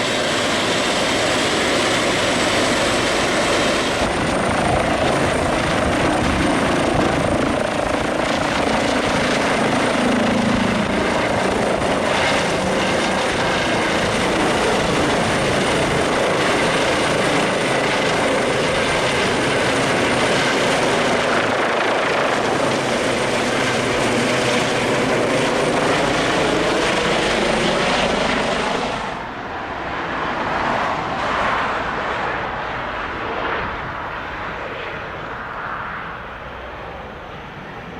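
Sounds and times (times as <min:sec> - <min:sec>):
helicopter rotor and engine: 0:00.0 - 0:37.9.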